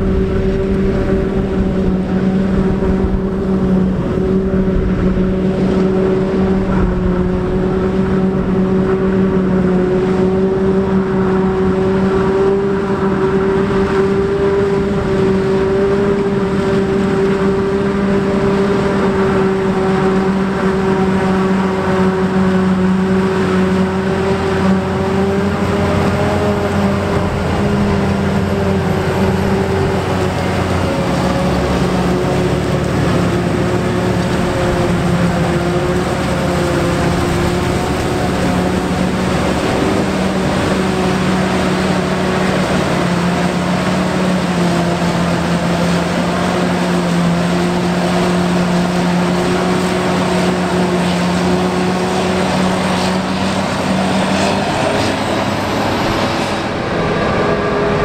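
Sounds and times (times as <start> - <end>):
harvester machine drone with whine: 0.0 - 58.0.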